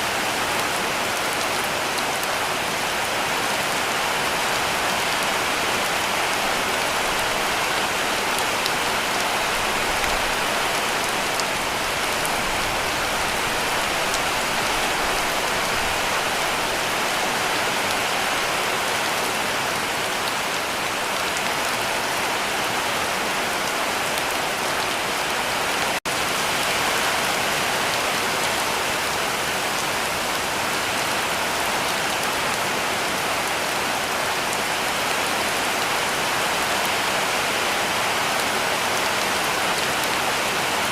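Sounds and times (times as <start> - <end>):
heavy rain drumming on a roof: 0.0 - 40.9.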